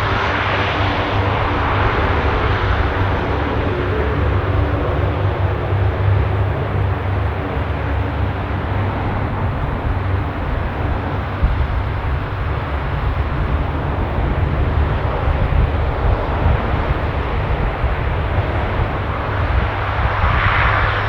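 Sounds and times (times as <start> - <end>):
turboprop engines droning: 0.0 - 21.0.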